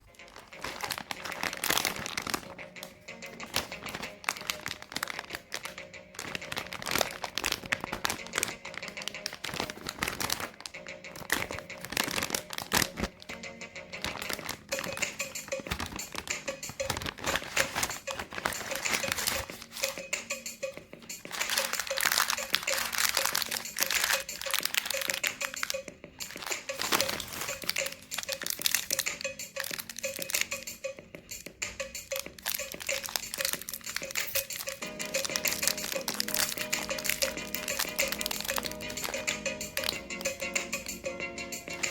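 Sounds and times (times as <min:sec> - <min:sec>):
wrappers crinkling: 0:00.0 - 0:20.1, 0:21.0 - 0:30.8, 0:32.0 - 0:41.9
background music: 0:00.0 - 0:41.9.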